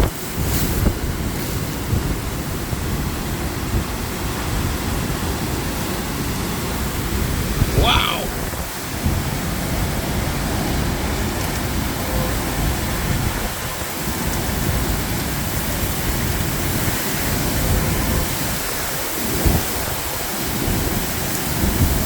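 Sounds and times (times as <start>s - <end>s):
heavy rain: 0.0s - 22.0s
strong wind rushing: 0.0s - 22.0s
wind buffeting microphone: 0.0s - 22.0s.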